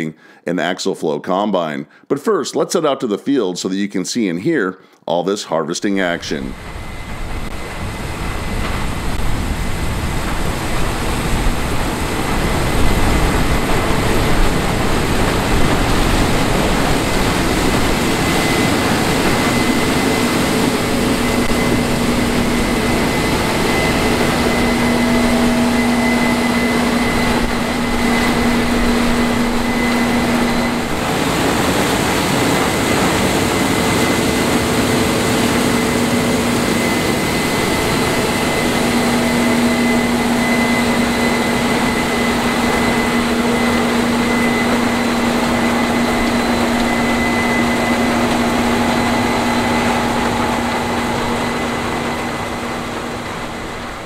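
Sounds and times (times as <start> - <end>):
combine harvester running: 6.1 - 54.0.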